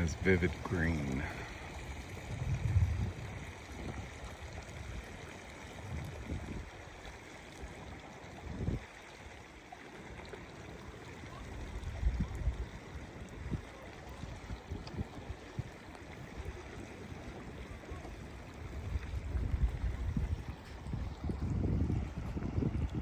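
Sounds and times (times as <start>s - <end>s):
water running over gravel: 0.0s - 23.0s.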